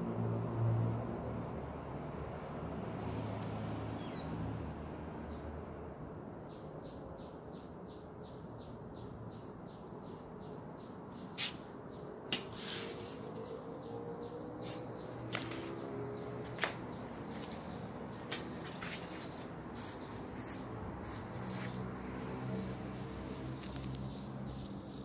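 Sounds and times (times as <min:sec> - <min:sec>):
outdoor background hiss: 0:00.9 - 0:25.0.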